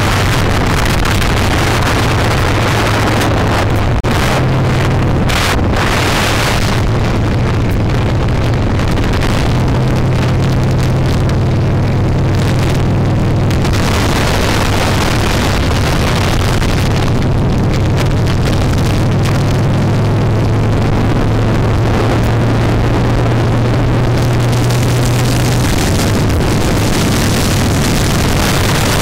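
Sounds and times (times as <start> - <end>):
motorcycle engine running: 0.0 - 29.0
wind noise on microphone: 0.0 - 29.0.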